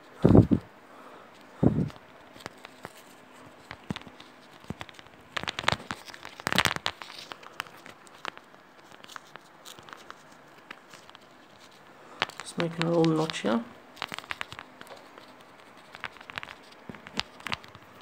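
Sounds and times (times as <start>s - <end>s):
vinyl record crackling when bent: 0.0s - 0.7s, 1.4s - 18.0s.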